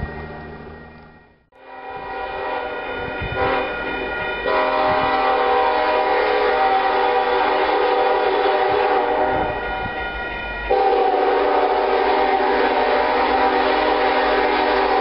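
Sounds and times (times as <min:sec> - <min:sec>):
locomotive air horn chord: 0:01.5 - 0:10.0, 0:10.7 - 0:15.0.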